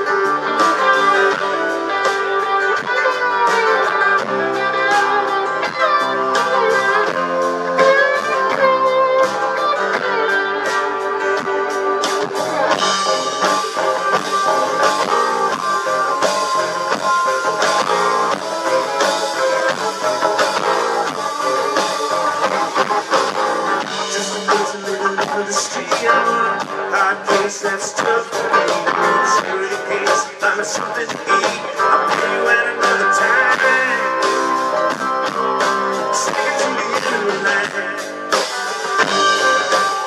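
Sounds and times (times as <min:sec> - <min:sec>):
electric guitar lead: 0:00.0 - 0:40.0
rock band playing: 0:00.0 - 0:40.0.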